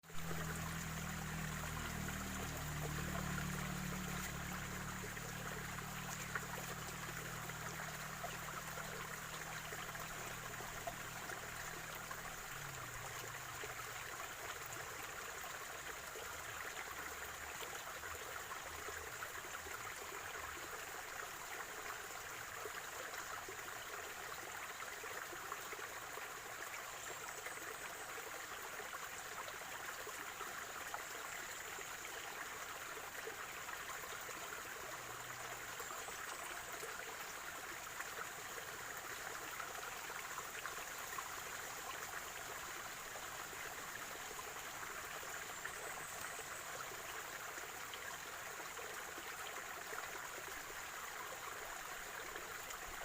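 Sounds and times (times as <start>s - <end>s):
stream trickling and gurgling: 0.0s - 53.0s.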